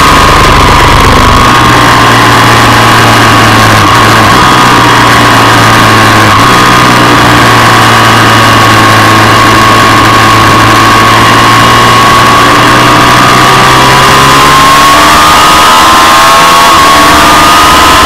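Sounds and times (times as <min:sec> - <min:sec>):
motorcycle engine running hard: 0:00.0 - 0:18.0.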